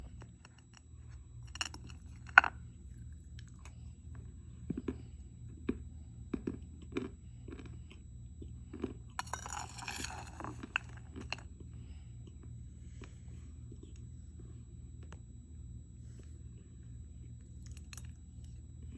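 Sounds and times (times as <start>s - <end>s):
clay being chewed with crunches: 0.0s - 14.1s, 16.2s - 18.9s
faint low hum: 0.0s - 18.9s.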